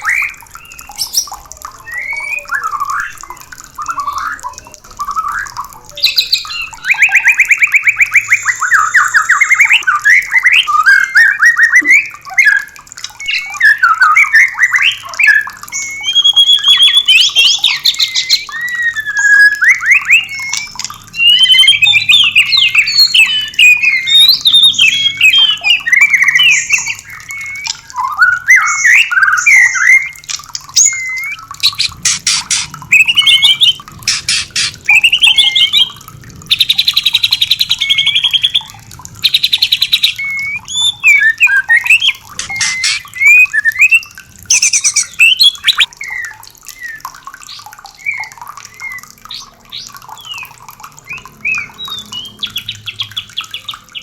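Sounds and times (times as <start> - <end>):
bird singing whistled phrases: 0.0 - 54.0
harsh rattling bird calls: 0.0 - 54.0.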